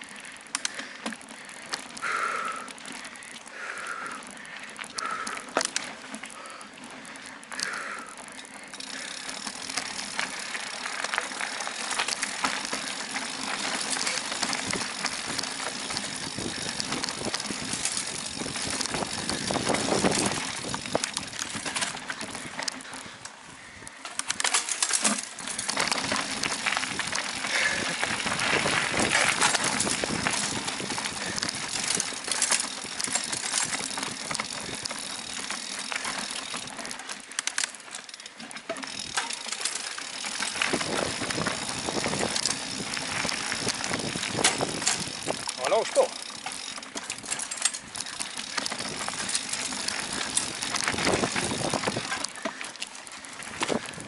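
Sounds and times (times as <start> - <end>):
bike rattling over bumps: 0.0 - 54.0
bike tyres rolling on dirt: 0.0 - 54.0.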